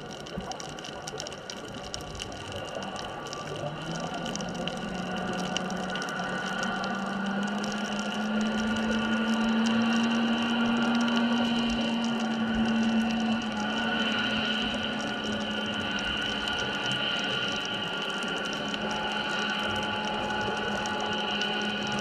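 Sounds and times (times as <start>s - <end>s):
faint crackle of clicks: 0.0s - 22.0s
low underwater hum: 0.0s - 22.0s.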